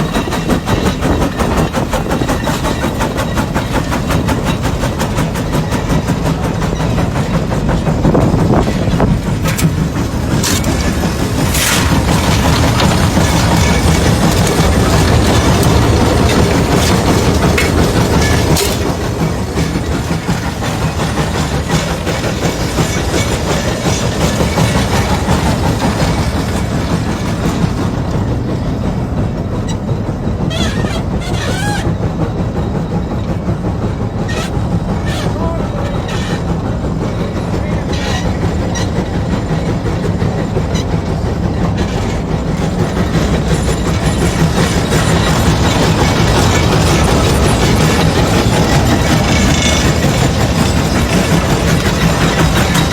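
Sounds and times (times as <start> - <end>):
steam traction engine rumbling: 0.0 - 52.9.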